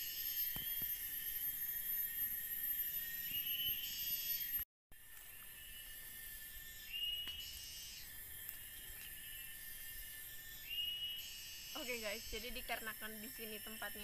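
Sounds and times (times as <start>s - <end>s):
insects buzzing: 0.0s - 14.0s
rising insect call: 0.0s - 14.0s.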